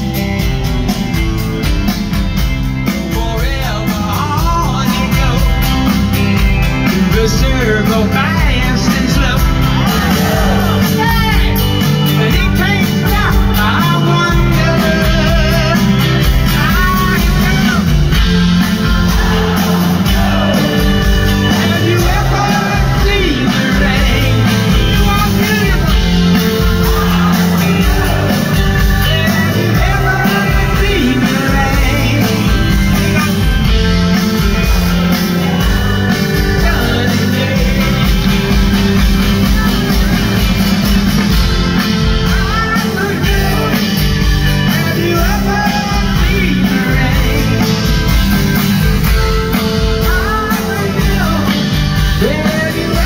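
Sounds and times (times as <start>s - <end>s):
live rock band: 0.0s - 53.0s
man singing: 2.8s - 40.0s, 41.9s - 48.2s, 49.3s - 53.0s.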